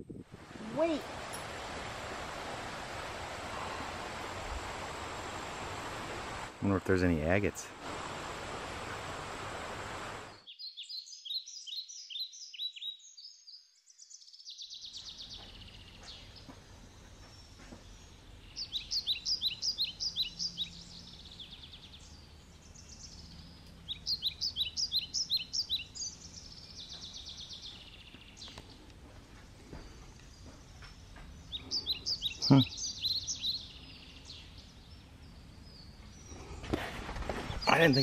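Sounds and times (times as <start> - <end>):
faint outdoor background: 0.0 - 38.0
songbird singing: 0.0 - 38.0.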